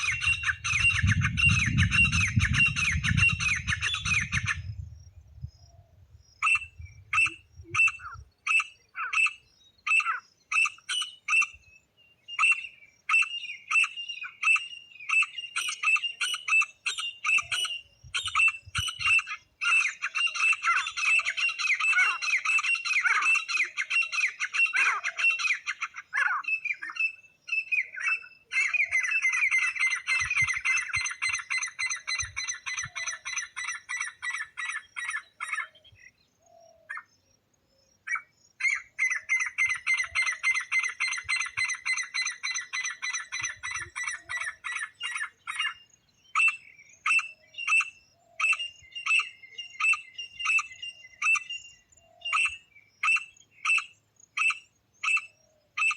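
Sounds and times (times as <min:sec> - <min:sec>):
francolin calling: 0:00.0 - 0:55.9.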